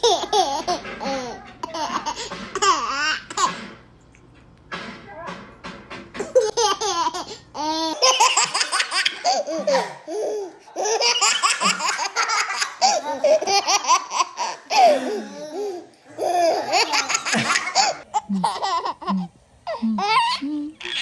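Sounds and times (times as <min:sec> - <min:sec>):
babies laughing: 0:00.0 - 0:03.6, 0:06.2 - 0:21.0.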